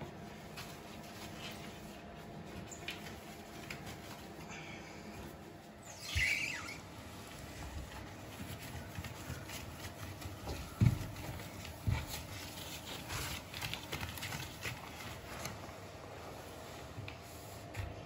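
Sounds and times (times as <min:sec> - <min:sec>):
cloth wiping floor tiles: 0:00.0 - 0:18.0.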